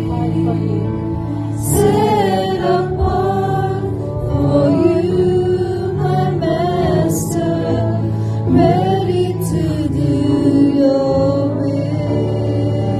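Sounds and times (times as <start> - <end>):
acoustic guitar: 0.0 - 12.9
sustained keyboard chords: 0.0 - 12.9
women singing into microphones: 0.0 - 12.9.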